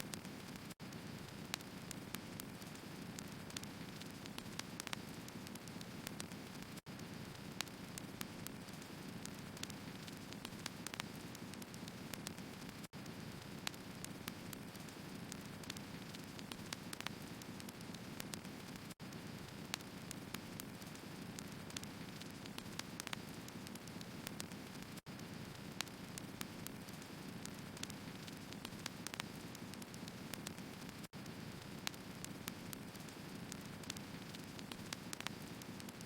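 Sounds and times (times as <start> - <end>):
firewood crackling and popping: 0.0 - 36.0.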